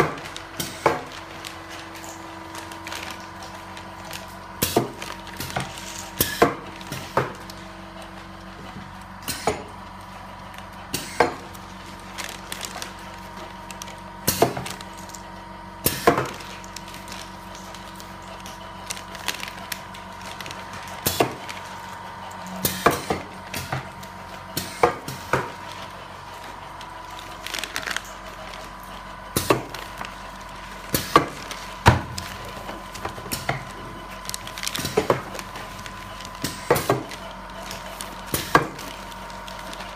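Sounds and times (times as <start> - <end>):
machine humming: 0.0 - 39.9.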